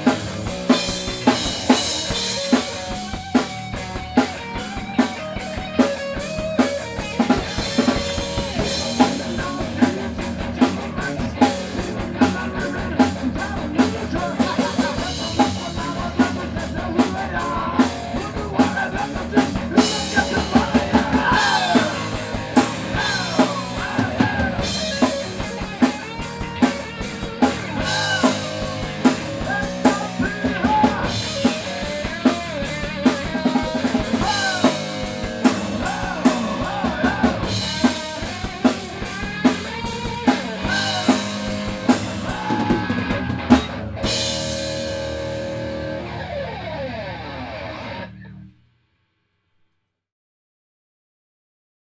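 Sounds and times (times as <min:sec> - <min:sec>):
drum kit beat: 0:00.0 - 0:46.4
live rock band playing: 0:00.0 - 0:48.4
electric guitar: 0:00.0 - 0:48.6.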